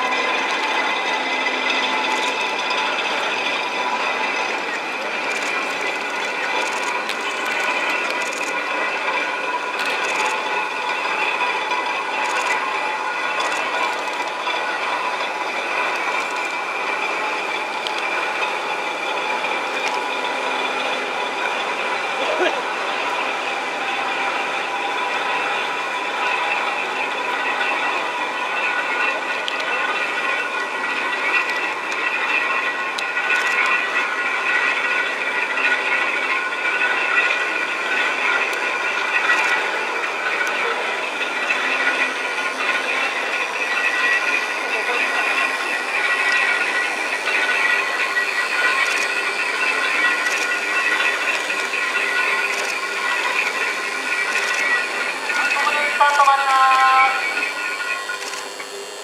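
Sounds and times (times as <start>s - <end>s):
metallic whine: 0.0s - 59.0s
turntable machinery humming and grinding: 0.0s - 59.0s.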